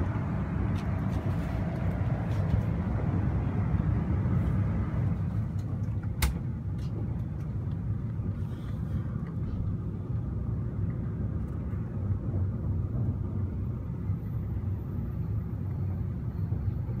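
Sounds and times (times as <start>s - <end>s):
train rumbling inside car: 0.0s - 17.0s.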